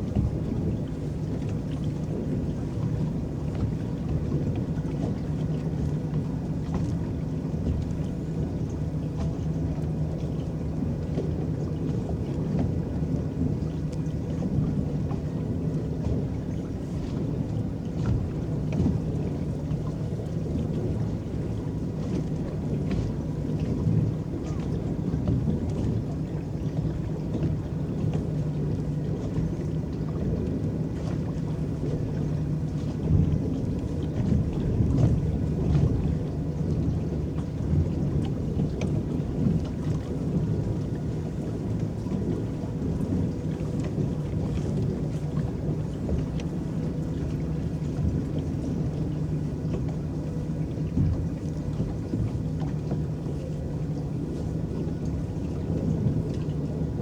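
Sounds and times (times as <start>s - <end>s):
water splashing against boat: 0.0s - 57.0s.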